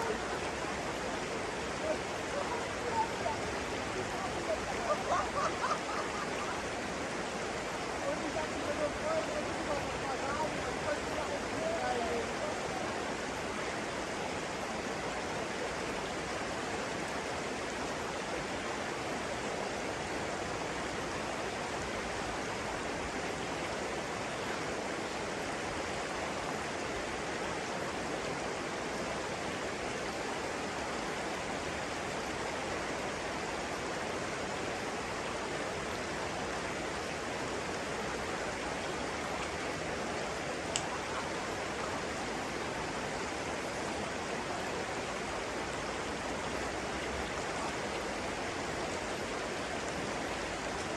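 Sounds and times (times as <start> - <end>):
water rushing: 0.0 - 50.9.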